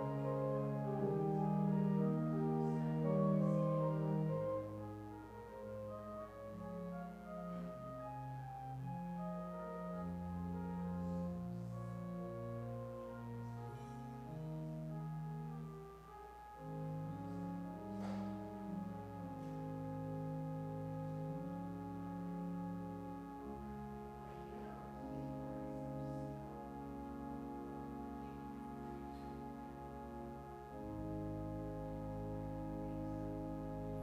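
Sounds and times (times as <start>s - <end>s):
church pipe organ chords: 0.0s - 34.0s.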